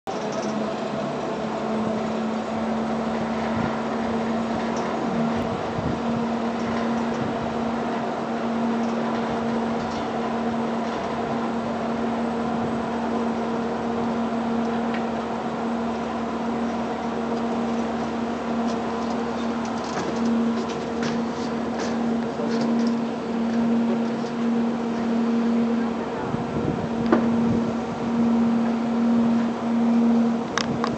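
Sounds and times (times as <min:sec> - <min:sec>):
machinery humming: 0:00.1 - 0:30.9.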